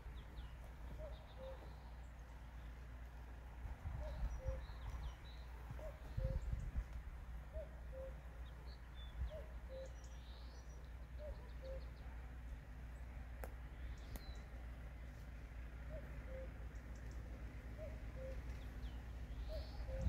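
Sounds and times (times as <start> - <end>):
faint low rumble: 0.0 - 20.0
small birds chirping: 0.0 - 20.0.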